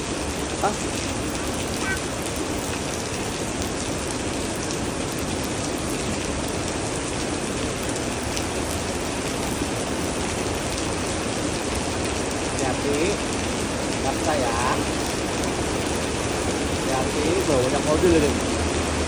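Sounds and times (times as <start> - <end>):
steady rain splashing: 0.0 - 19.0.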